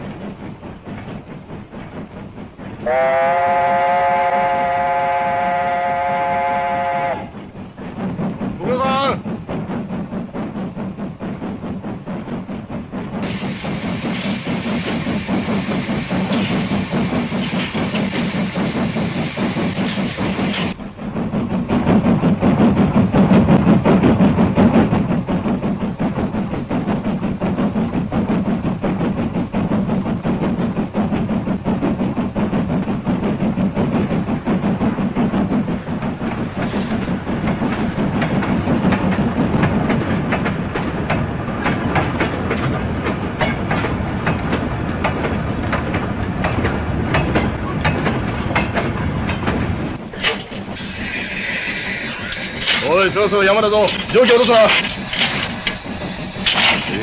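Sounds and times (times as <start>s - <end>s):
steam locomotive running: 0.0s - 57.0s
wheels clattering on rails: 0.0s - 57.0s.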